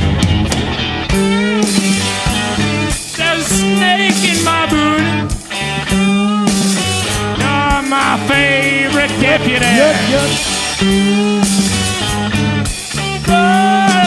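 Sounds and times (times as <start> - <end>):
psychedelic rock band playing: 0.0 - 14.0
wavering guitar lead line: 0.0 - 14.0.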